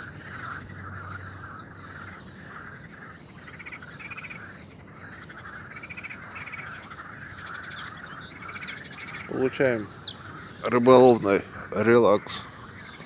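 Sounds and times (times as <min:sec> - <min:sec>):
frogs croaking: 0:00.0 - 0:13.0
rapid trilled frog calls: 0:00.0 - 0:13.0.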